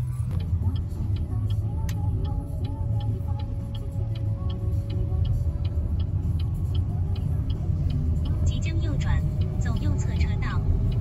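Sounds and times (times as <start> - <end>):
car cabin rumble: 0.0 - 11.0
turn signal clicking: 0.1 - 11.0.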